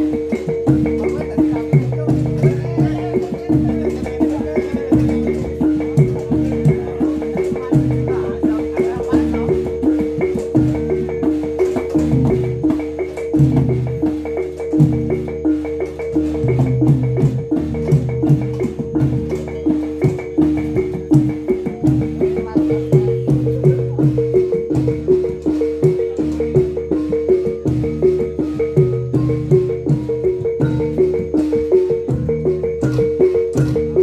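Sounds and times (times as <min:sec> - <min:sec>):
gamelan playing: 0:00.0 - 0:34.0
sharp percussive strokes: 0:00.0 - 0:34.0.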